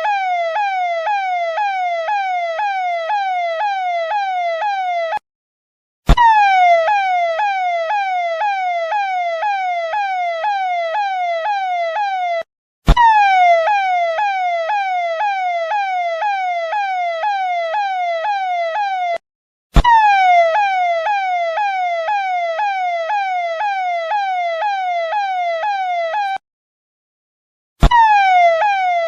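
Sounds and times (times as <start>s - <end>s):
electronic police siren wailing: 0.0s - 5.2s, 6.1s - 19.2s, 19.8s - 26.4s, 27.8s - 29.0s.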